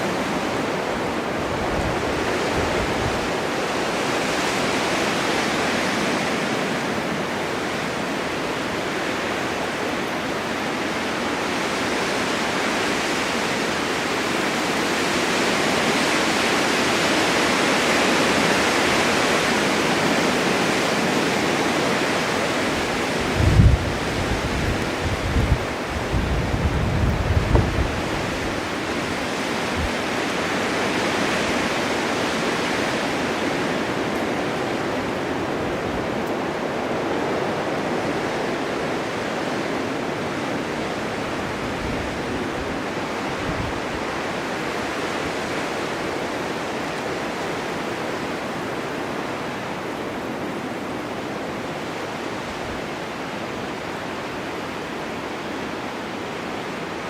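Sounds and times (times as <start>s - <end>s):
blizzard wind rushing hiss: 0.0s - 57.0s.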